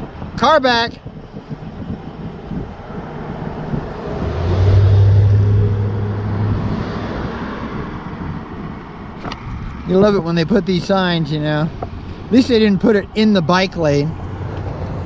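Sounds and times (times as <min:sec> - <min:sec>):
car passing: 0:01.4 - 0:15.0.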